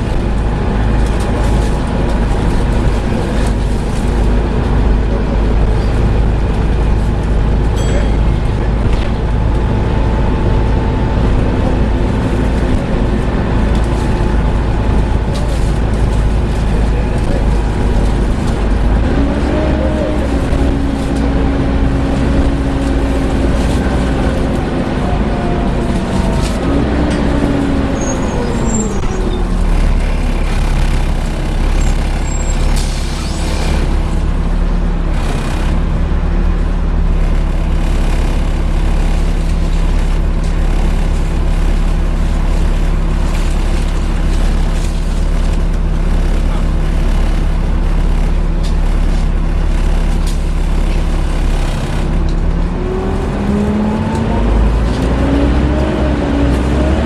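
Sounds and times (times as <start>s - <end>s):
bus engine and fan droning: 0.0s - 57.0s.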